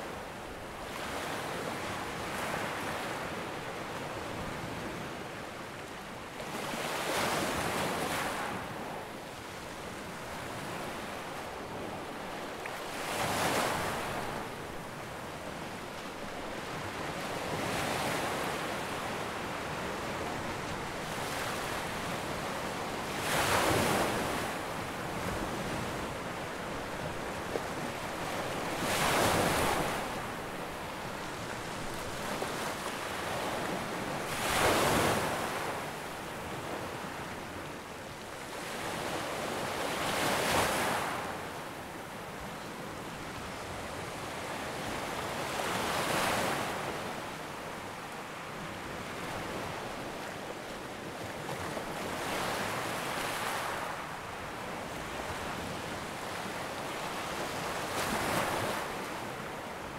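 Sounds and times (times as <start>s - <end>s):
waves surging onto beach: 0.0s - 59.9s.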